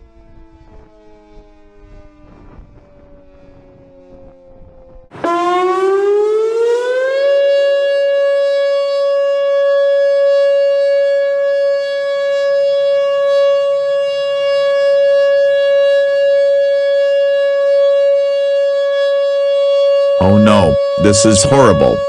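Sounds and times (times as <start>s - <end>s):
tornado warning siren: 0.0s - 22.0s.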